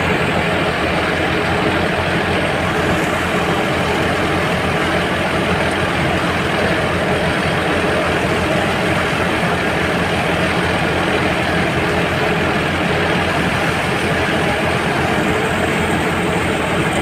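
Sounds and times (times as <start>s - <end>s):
threshing machine rumble: 0.0s - 17.0s
tractor engine under load: 0.0s - 17.0s.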